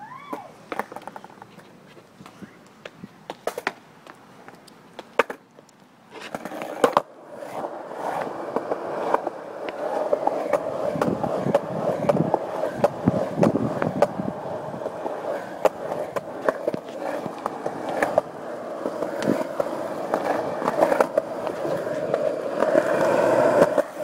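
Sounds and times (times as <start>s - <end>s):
skateboard wheels rolling on concrete: 0.0s - 24.0s.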